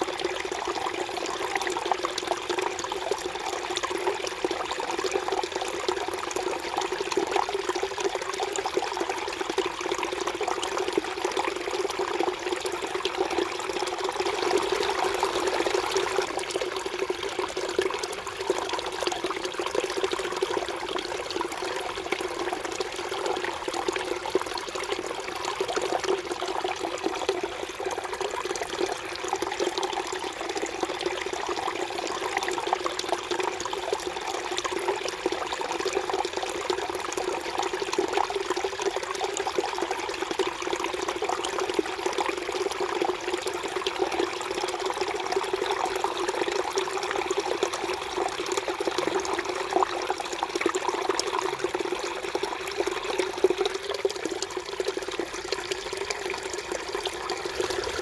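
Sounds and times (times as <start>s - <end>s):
stream trickling over rocks: 0.0s - 58.0s.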